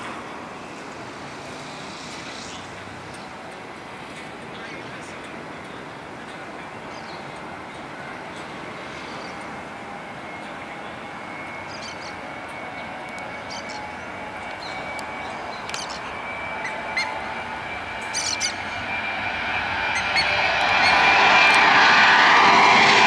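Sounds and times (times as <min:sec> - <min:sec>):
high fan whine: 0:00.0 - 0:23.0
jet engines at takeoff: 0:00.0 - 0:23.0
birds chirping: 0:02.4 - 0:21.8.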